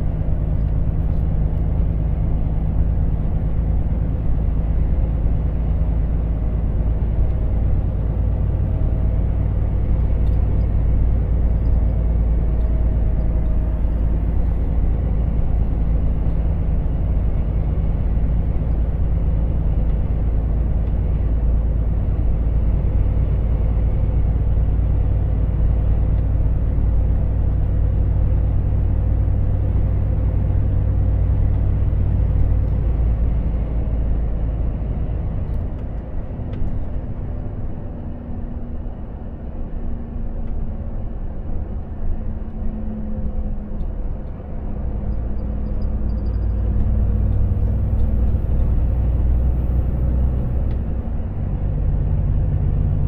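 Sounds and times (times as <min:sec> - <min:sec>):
road noise: 0:00.0 - 0:53.0
truck engine hum: 0:00.0 - 0:53.0.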